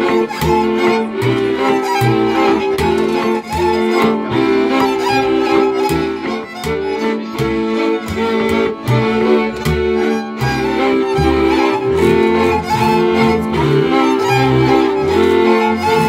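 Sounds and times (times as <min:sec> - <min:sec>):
bowed double bass: 0:00.0 - 0:16.0
fiddle melody: 0:00.0 - 0:16.0
off-beat string chords: 0:00.0 - 0:16.0.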